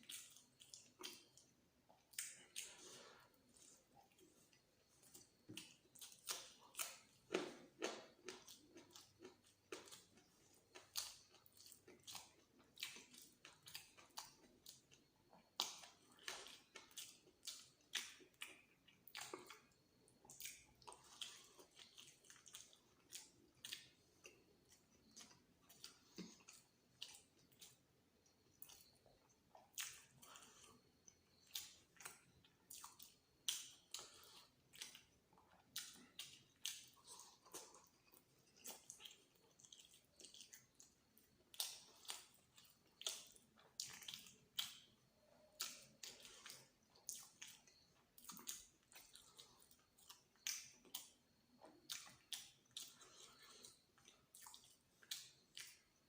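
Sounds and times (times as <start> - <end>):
person chewing with wet smacks: 0.0 - 56.0.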